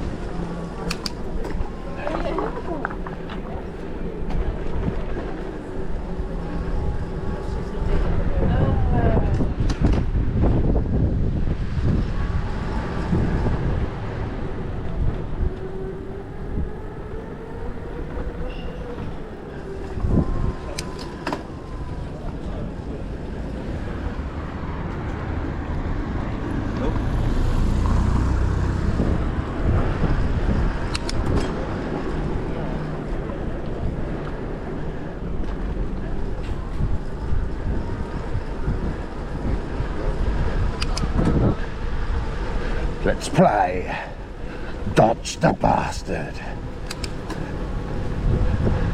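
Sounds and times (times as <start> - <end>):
wind and road noise rumble: 0.0 - 48.9.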